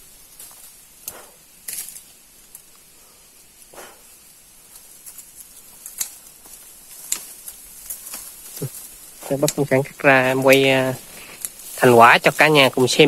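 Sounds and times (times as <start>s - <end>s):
bamboo rustling and snapping: 0.0s - 13.0s.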